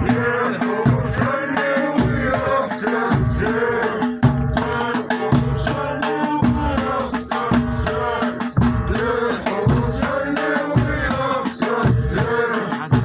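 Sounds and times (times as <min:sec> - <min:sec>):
group chanting and singing: 0:00.0 - 0:13.0
low drum beats: 0:00.0 - 0:13.0
rattling percussion: 0:00.0 - 0:13.0.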